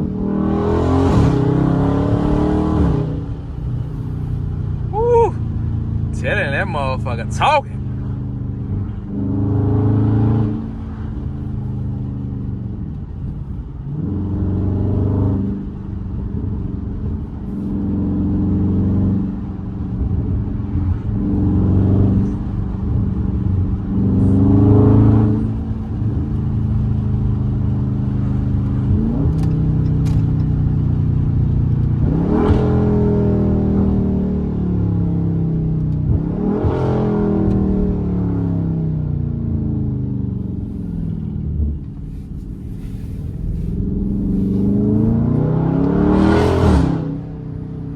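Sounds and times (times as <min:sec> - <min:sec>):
car engine accelerating hard: 0:00.0 - 0:47.9.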